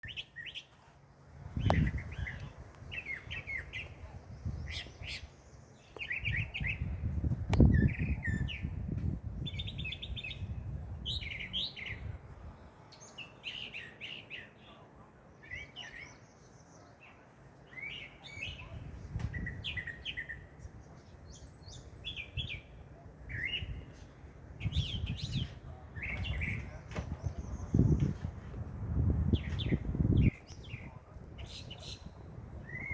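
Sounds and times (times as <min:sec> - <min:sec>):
birds chirping: 0:00.0 - 0:00.8, 0:01.5 - 0:32.9.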